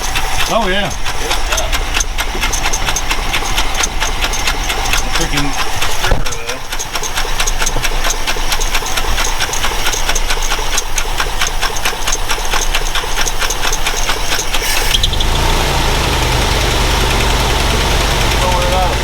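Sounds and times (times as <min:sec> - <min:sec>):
rapid even ticking: 0:00.0 - 0:19.0
truck engine idling: 0:00.0 - 0:19.0.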